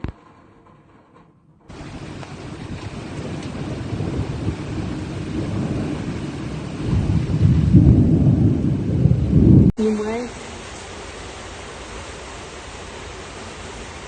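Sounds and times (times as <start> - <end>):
heavy downpour: 1.7 - 14.0
rushing storm water: 1.7 - 14.0.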